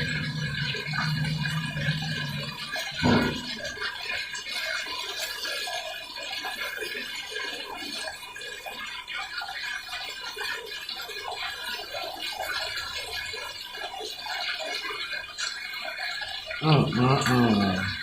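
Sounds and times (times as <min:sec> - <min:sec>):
toilet flushing continuously: 0:00.0 - 0:18.0.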